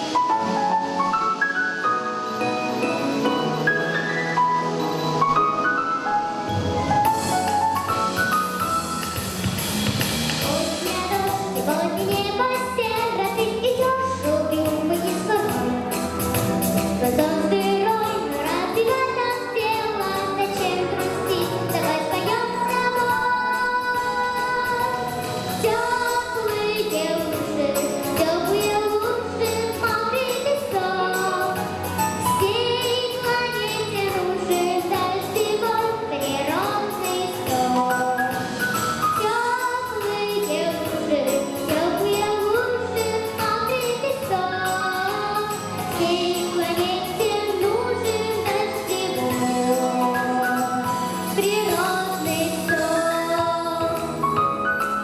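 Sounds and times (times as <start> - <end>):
backing track: 0.0 - 55.0
woman singing pop song: 10.4 - 55.0.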